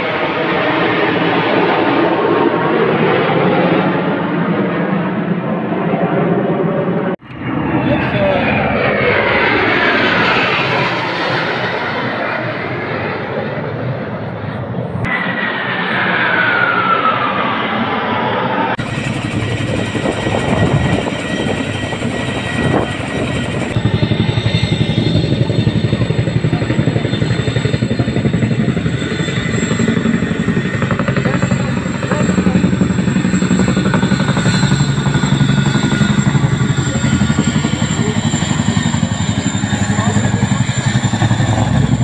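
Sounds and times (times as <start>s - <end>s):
helicopter rotor chopping: 0.0s - 17.0s, 17.9s - 42.0s.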